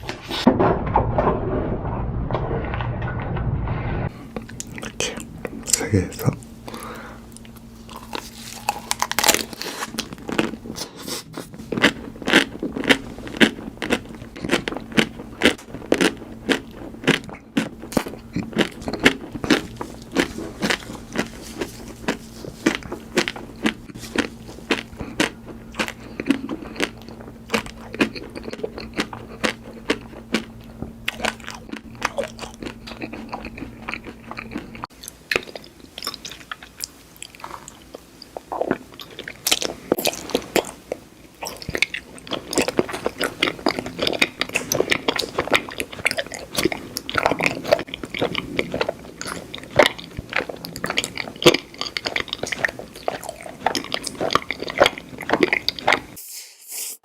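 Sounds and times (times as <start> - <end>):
low steady hum: 0.0 - 56.2
crunchy food eating: 4.1 - 57.0.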